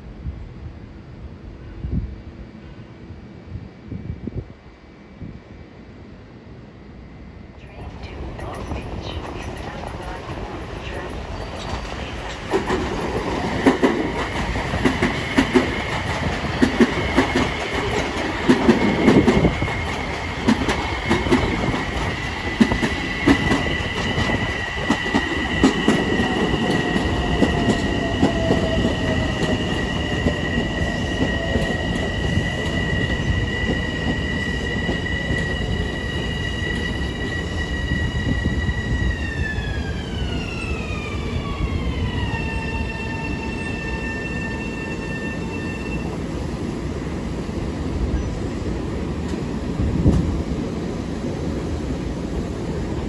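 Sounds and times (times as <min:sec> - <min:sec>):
train passing: 0:00.0 - 0:53.0.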